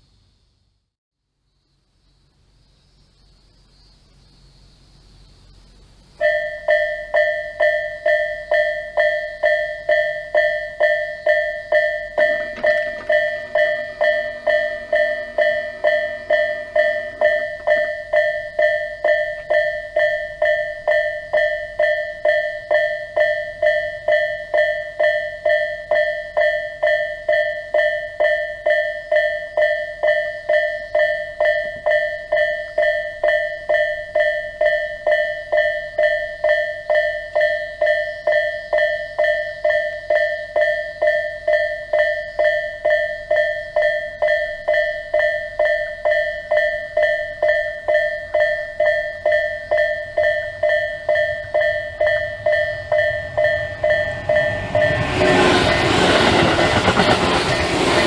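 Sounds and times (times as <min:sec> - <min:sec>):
level-crossing bell ringing: 0:06.2 - 0:58.0.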